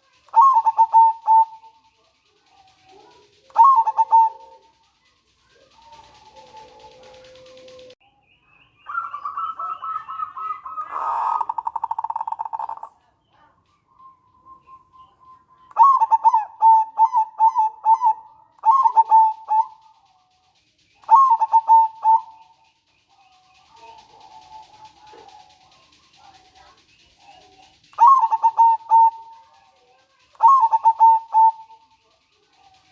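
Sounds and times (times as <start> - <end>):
dove calling: 0.0 - 8.0, 8.6 - 32.9.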